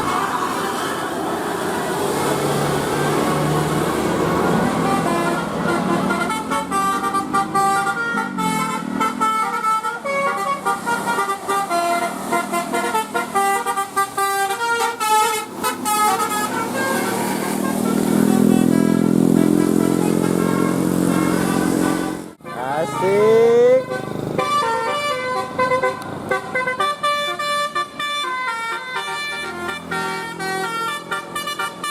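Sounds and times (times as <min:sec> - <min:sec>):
multi-tone bus horn melody: 0:02.1 - 0:31.9.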